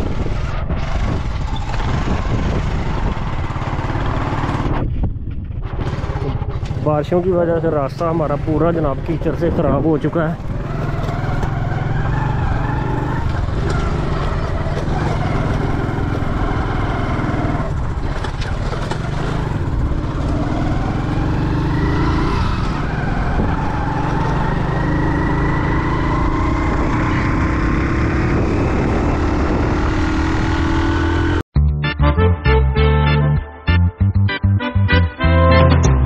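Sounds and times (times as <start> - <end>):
motorcycle engine rumbling: 0.0 - 31.4.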